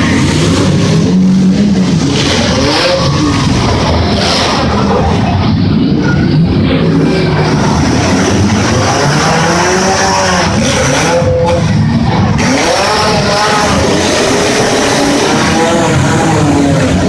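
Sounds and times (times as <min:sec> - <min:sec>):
car engines revving hard: 0:00.0 - 0:17.0
loud steady din: 0:00.0 - 0:17.0.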